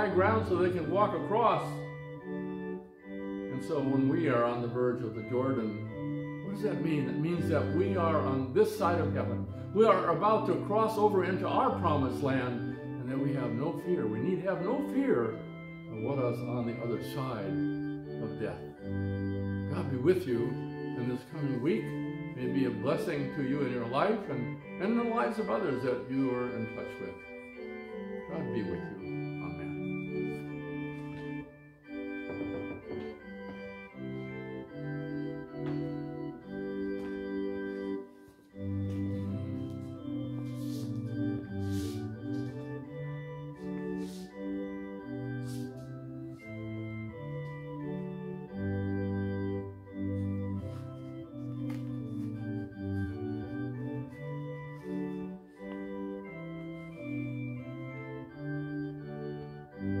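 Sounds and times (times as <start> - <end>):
organ playing slow chords: 0.0 - 60.0.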